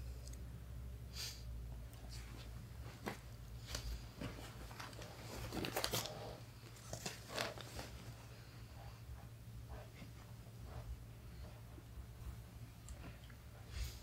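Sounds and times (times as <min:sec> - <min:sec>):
low steady hum: 0:00.0 - 0:14.0
bedding rustling and crinkling: 0:02.0 - 0:14.0.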